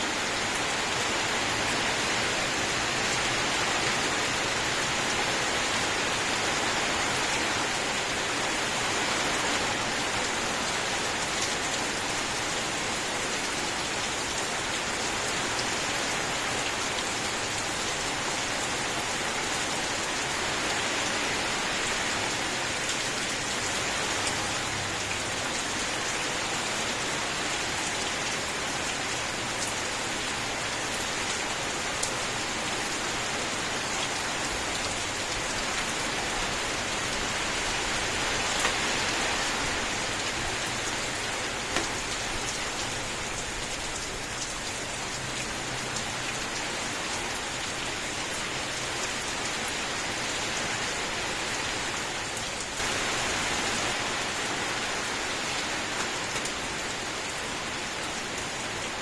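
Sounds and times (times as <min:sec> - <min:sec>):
individual raindrops: 0:00.0 - 0:59.0
steady rain: 0:00.0 - 0:59.0.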